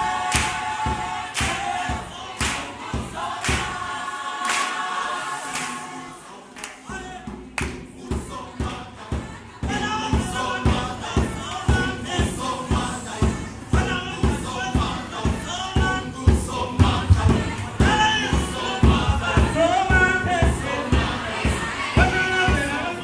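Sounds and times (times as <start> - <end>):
choir singing in harmony: 0.0 - 23.0
low rhythmic thumps: 0.0 - 23.0.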